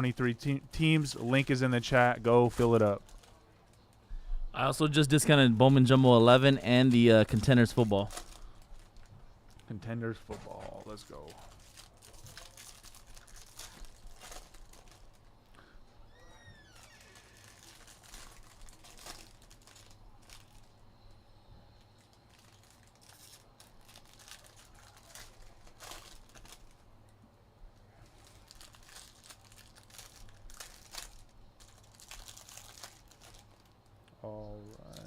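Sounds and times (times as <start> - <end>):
plastic wrapping crinkling: 0.0 - 4.0, 4.8 - 9.8, 10.6 - 15.5, 16.2 - 20.8, 21.8 - 27.1, 28.0 - 35.0.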